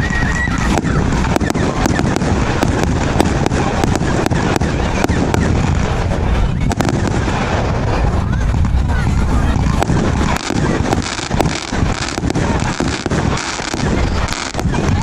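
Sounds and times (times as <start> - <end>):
fireworks cracking and banging: 0.0 - 15.0
low rumble of bursts: 0.0 - 15.0.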